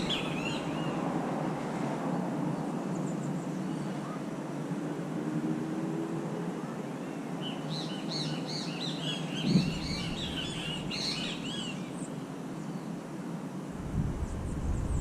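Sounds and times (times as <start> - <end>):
songbird chirping: 0.0 - 15.0
steady background noise: 0.0 - 15.0.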